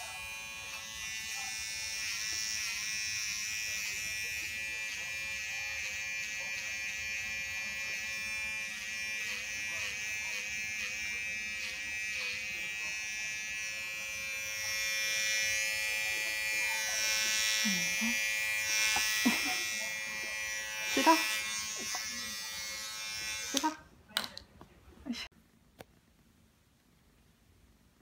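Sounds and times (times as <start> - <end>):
electric hair clipper buzzing: 0.0 - 23.8.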